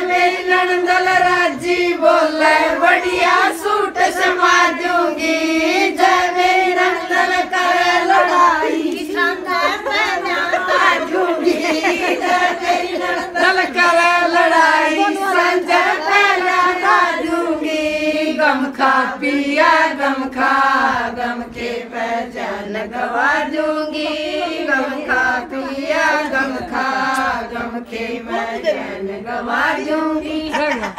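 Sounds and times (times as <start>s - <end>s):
women singing folk song: 0.0s - 30.9s.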